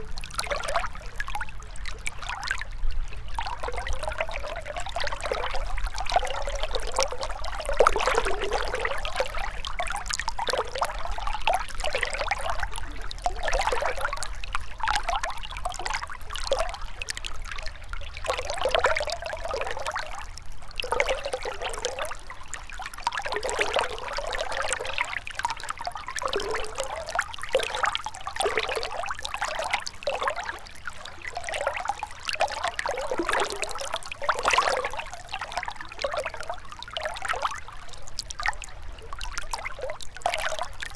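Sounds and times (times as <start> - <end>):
river water trickling over stones: 0.0 - 40.9.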